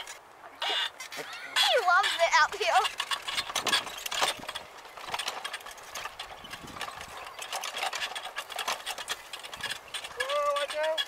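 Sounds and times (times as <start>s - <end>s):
wheelchair wheels crunching: 0.0s - 11.0s.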